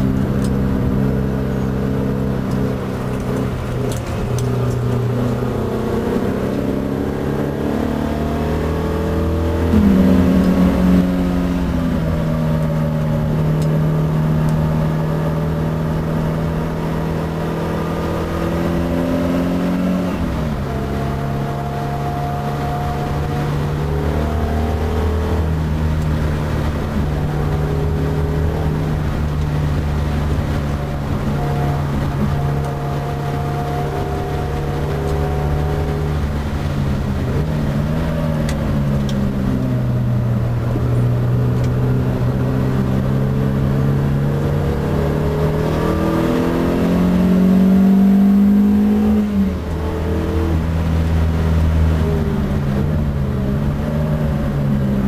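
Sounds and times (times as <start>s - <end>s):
car engine pulling hard: 0.0s - 55.0s.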